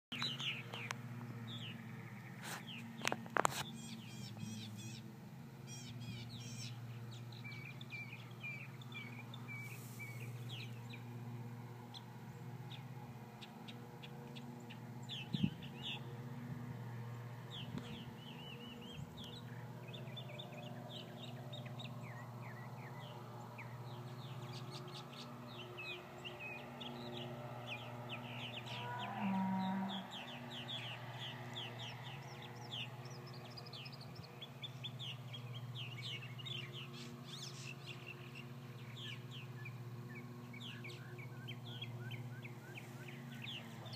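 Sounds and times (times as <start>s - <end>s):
birds chirping and chattering: 0.1s - 43.9s.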